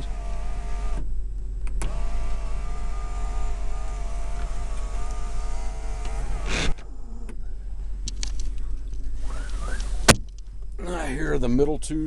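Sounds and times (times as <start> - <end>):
electric motor whining: 0.0 - 10.2
car engine idling hum: 0.0 - 12.0.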